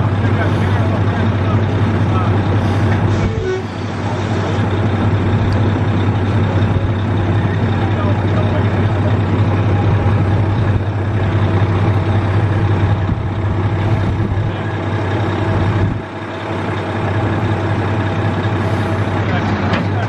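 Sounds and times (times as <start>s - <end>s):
heavy machine engine humming: 0.0s - 20.0s.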